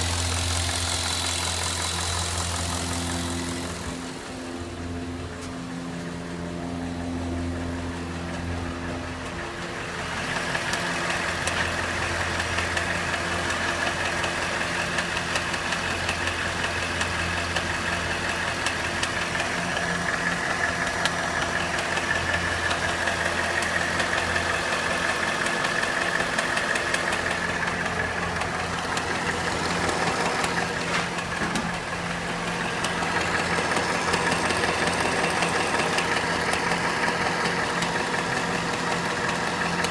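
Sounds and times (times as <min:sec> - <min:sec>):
engine clicking: 0:00.0 - 0:05.8, 0:06.7 - 0:39.9
car engine idling: 0:00.0 - 0:39.9.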